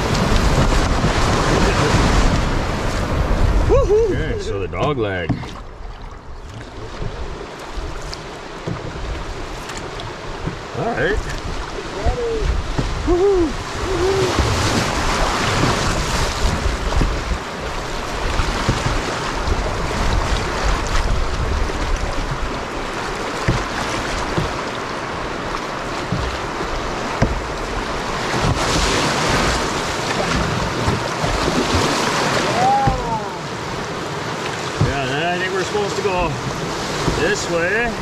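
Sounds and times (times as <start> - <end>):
wind rumbling on microphone: 0.0 - 35.1
rushing whitewater: 0.0 - 38.0.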